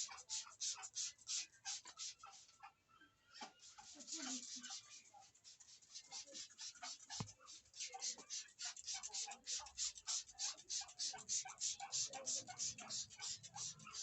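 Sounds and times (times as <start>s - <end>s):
rhythmic scrubbing strokes: 0.0s - 2.5s, 3.6s - 14.0s.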